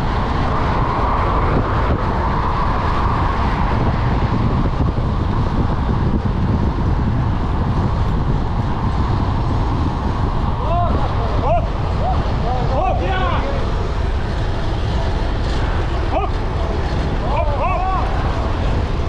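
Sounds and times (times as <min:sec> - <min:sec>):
wind rush over microphone: 0:00.0 - 0:19.0.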